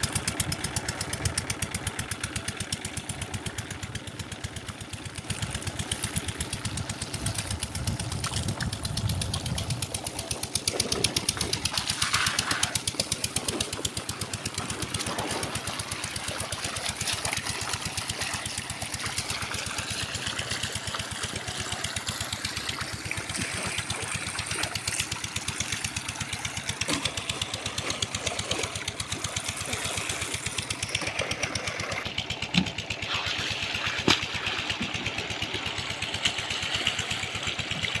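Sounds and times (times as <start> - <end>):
pump engine running: 0.0 - 38.0
water gushing from pipe: 0.0 - 38.0.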